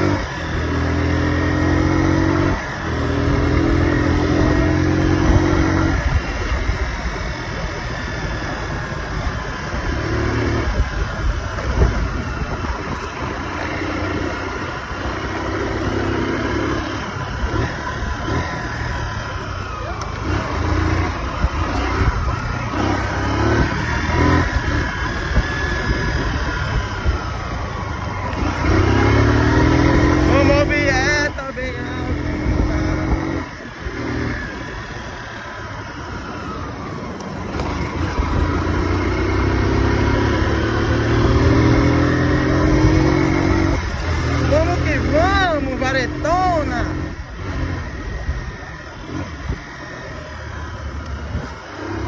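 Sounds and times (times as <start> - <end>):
motorcycle engine running: 0.0 - 52.0
wind and road noise: 0.0 - 52.0.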